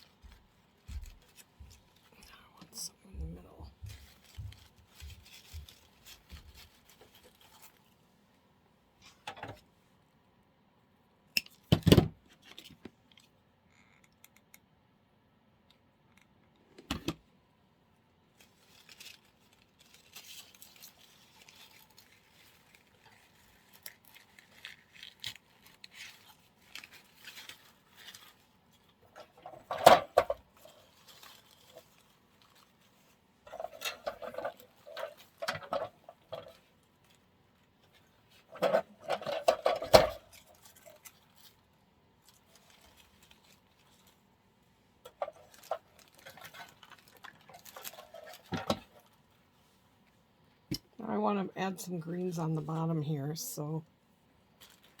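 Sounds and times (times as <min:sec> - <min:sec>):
artificial flowers rustling: 0:00.0 - 0:09.2, 0:18.3 - 0:55.0.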